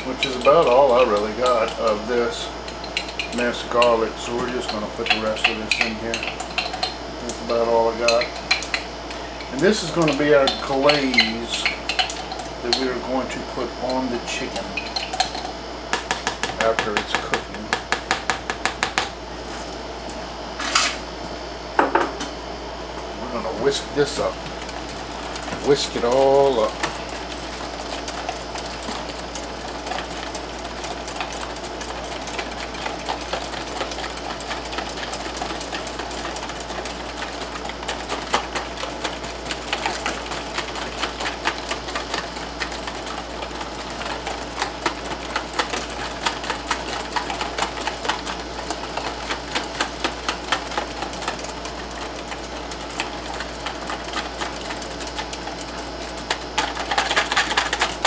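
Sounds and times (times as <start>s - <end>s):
whisk clattering against bowl: 0.0s - 19.1s, 23.6s - 58.0s.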